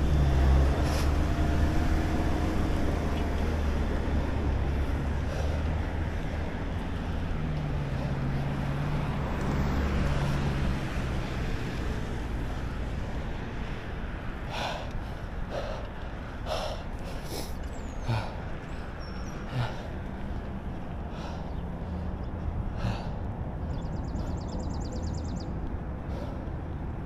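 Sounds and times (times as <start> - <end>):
low engine hum: 0.0 - 27.0
road traffic: 0.0 - 27.0.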